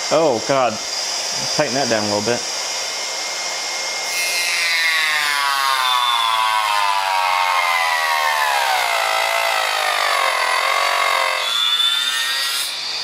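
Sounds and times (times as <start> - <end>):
table saw motor whine: 0.0 - 13.0.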